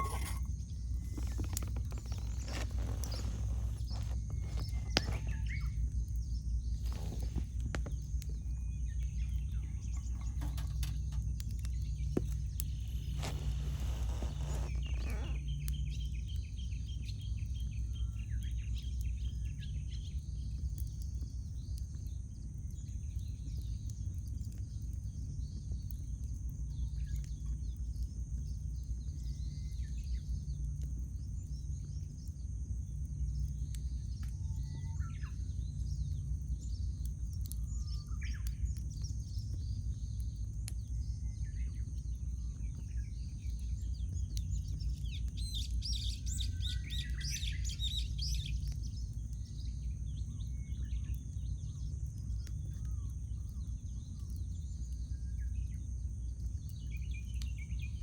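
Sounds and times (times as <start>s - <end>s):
campfire crackling and popping: 0.0s - 58.0s
steady low rumble: 0.0s - 58.0s.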